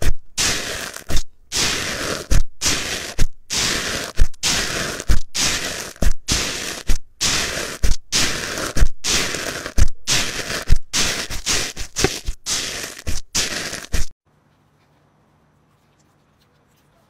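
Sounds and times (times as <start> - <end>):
slime crunching: 0.3 - 14.1.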